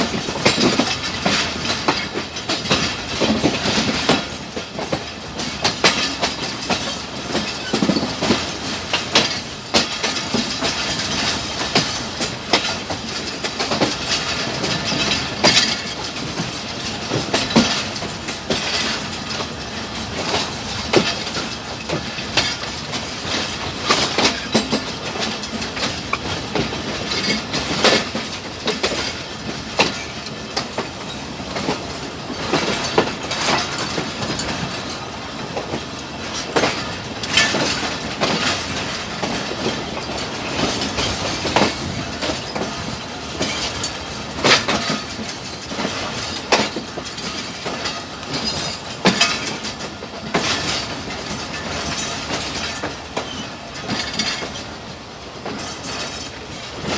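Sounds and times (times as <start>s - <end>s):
train wheels clattering over rail joints: 0.0s - 56.9s.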